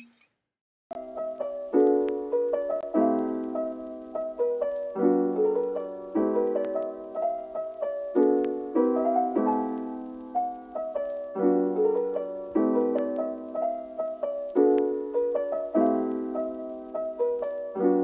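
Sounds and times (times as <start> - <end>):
piano chords ringing: 0.9 - 18.0.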